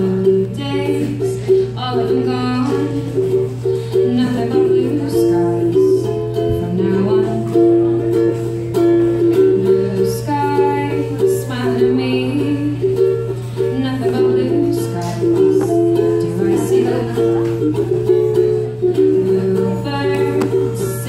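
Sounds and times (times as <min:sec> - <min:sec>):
ukulele strummed and picked: 0:00.0 - 0:21.0
woman singing: 0:00.0 - 0:21.0.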